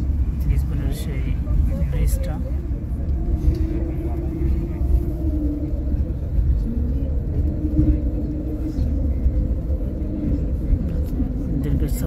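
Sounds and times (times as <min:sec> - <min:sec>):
engine and tyre rumble: 0:00.0 - 0:12.0
wavering hum: 0:00.0 - 0:12.0.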